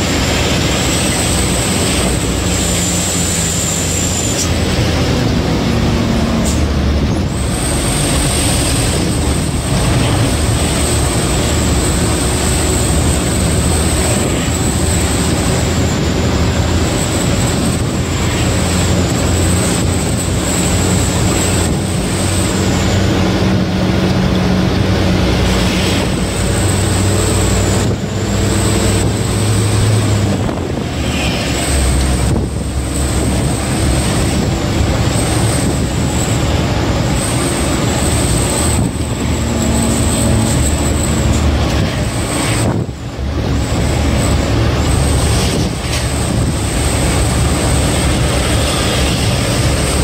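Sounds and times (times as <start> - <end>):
diesel truck engine running: 0.0 - 50.0
road and wind noise: 0.0 - 50.0.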